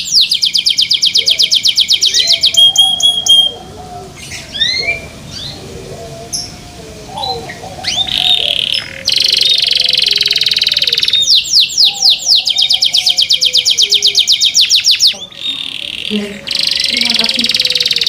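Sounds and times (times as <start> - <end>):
canary singing trills: 0.0 - 18.0
low warbled bird calls: 0.0 - 18.0.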